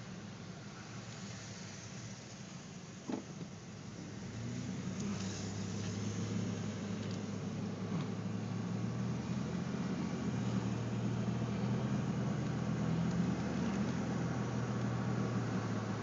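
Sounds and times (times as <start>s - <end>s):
car engine hum: 0.0s - 16.0s
tyre and road noise: 0.6s - 16.0s.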